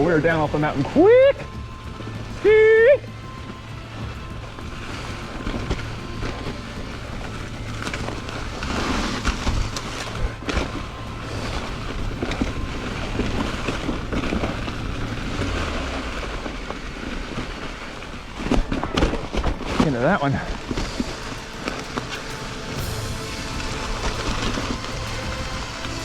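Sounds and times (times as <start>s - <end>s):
tyres rumbling on trail: 0.0s - 26.0s.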